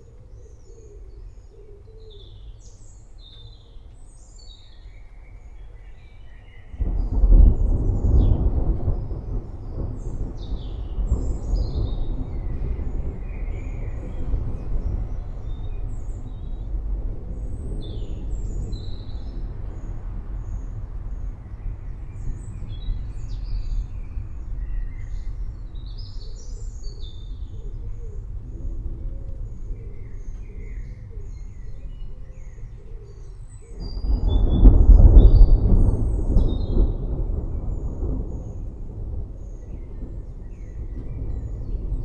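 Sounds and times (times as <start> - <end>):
low rolling thunder: 4.9 - 42.0.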